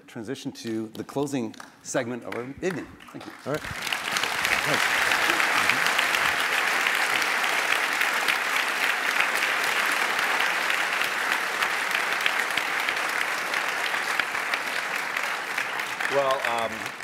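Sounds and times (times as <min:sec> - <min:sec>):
audience applauding: 0:01.6 - 0:17.0.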